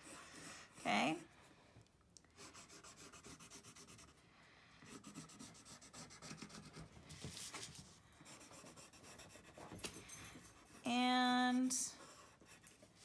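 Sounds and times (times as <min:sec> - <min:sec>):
pencil scratching on paper: 0:00.0 - 0:01.3, 0:02.4 - 0:04.2, 0:04.8 - 0:09.8, 0:10.6 - 0:13.0.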